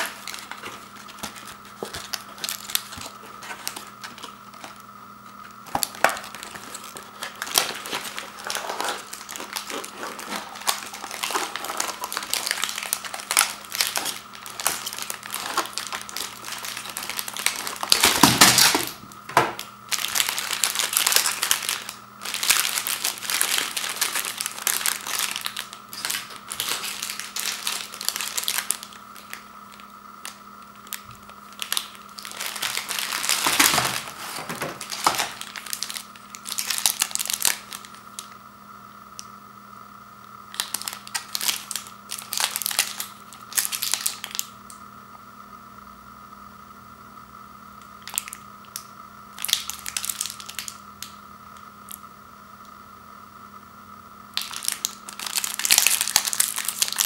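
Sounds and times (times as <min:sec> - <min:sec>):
plastic wrappers crinkling: 0:00.0 - 0:38.3, 0:40.5 - 0:44.6, 0:48.0 - 0:48.4, 0:49.4 - 0:51.1, 0:54.4 - 0:57.0.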